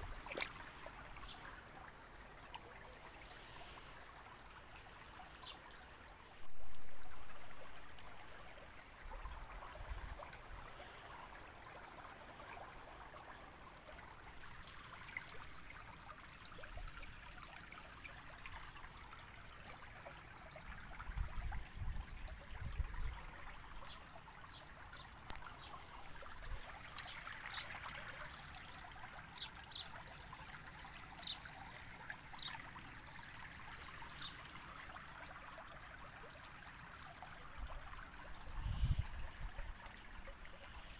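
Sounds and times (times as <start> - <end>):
stream trickling over stones: 0.0 - 40.9.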